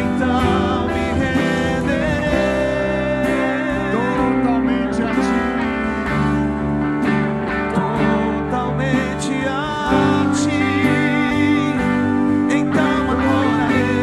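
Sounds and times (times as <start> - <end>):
band playing slow worship music: 0.0 - 14.0.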